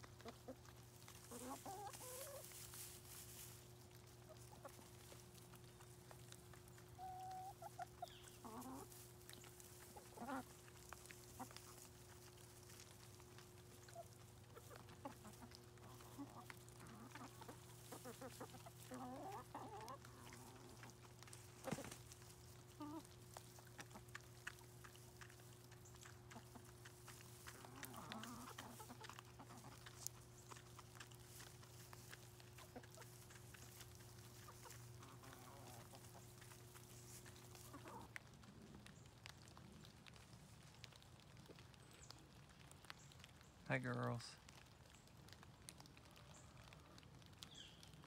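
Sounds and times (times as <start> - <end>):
chickens clucking softly: 0.0 - 43.4.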